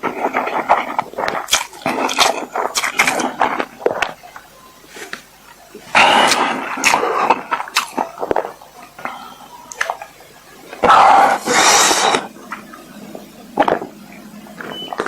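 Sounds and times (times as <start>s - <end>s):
mouth clicks: 0.0s - 15.0s
rushing noise: 0.0s - 15.0s.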